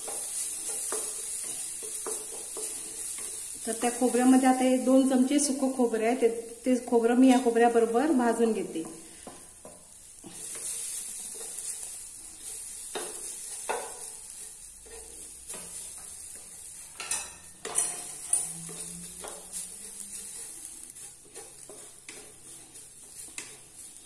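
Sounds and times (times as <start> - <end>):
spatula scraping coconut in pan: 0.0 - 6.6, 7.2 - 24.0.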